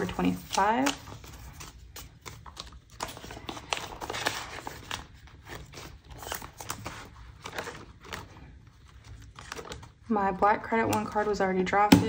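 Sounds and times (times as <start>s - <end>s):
paper bills rustling and crinkling: 0.0s - 10.1s.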